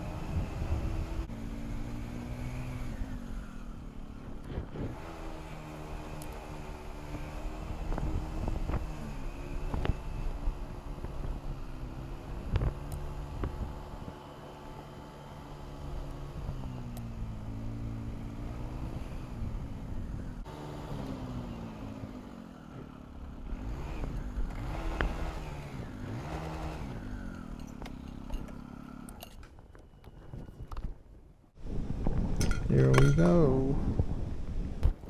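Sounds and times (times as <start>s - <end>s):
motorcycle engine revving: 0.0s - 29.3s.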